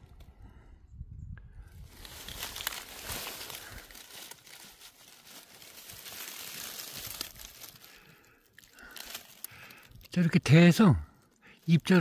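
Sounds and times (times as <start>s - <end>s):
dry leaves and twigs crackling: 1.7s - 12.0s.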